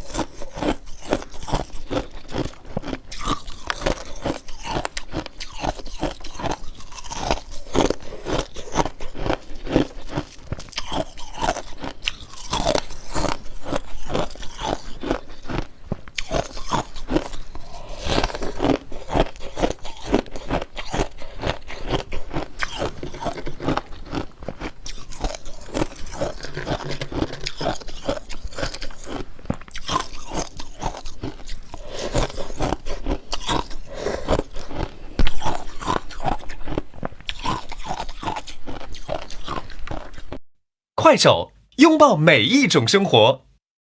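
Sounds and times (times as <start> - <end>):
person chewing ice crunches: 0.0 - 40.4.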